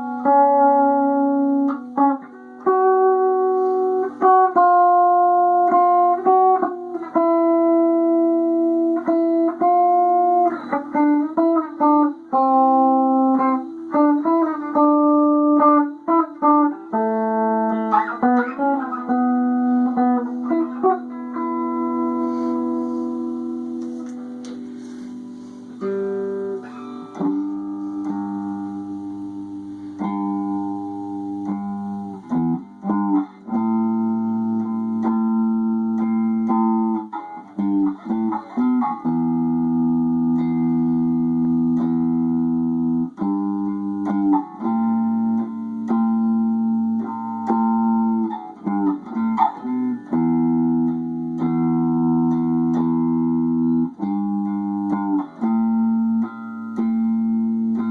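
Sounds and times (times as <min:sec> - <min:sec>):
guitar playing chords: 0:00.0 - 0:57.9.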